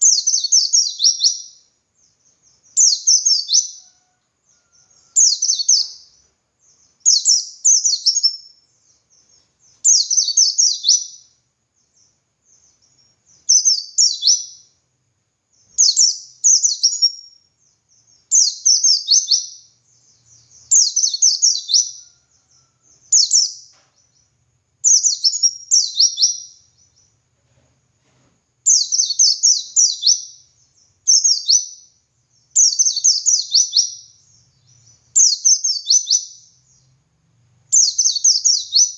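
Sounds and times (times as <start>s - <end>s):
bird singing rapid high chirps: 0.0s - 3.9s, 4.7s - 14.8s, 15.5s - 27.2s, 28.7s - 37.1s, 37.7s - 38.9s.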